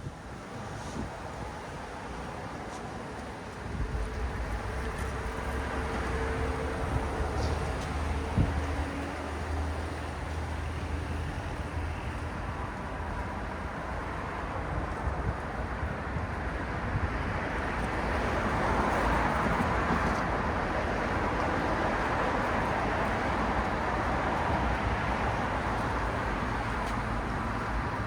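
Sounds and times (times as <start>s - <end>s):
road traffic: 0.0s - 28.0s.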